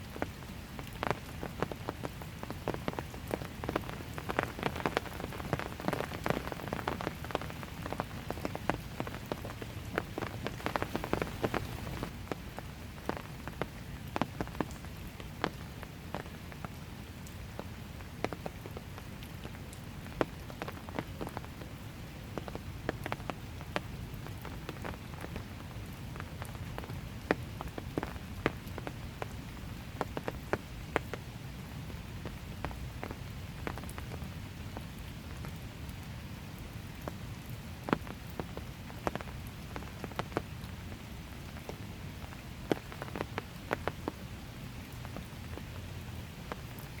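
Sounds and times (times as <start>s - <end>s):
light rain on hard surfaces: 0.0s - 47.0s.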